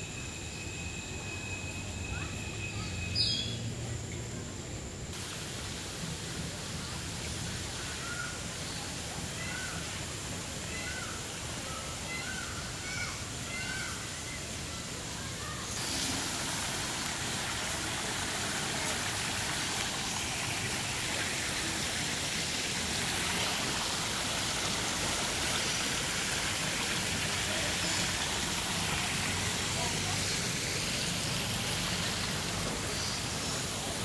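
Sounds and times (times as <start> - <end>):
fountain water splashing: 5.1 - 34.0.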